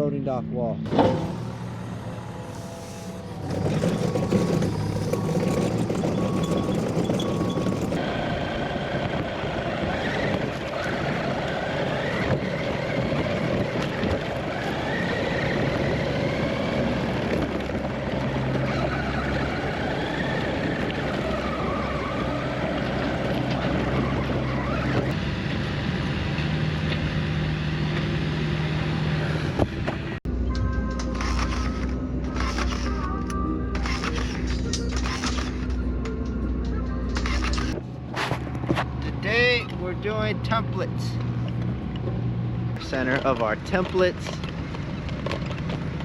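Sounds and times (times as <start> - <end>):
diesel engine running under load: 0.8 - 39.8.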